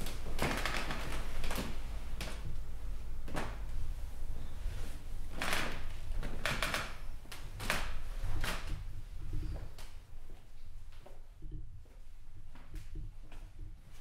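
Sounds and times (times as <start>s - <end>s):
bedding rustling: 0.0s - 14.0s
low room hum: 0.0s - 14.0s.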